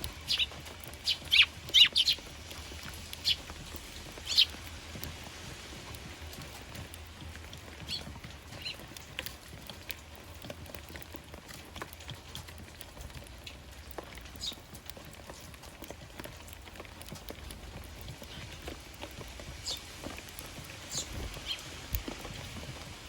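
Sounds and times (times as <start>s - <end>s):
sparrows chirping: 0.0s - 10.4s, 12.8s - 22.9s.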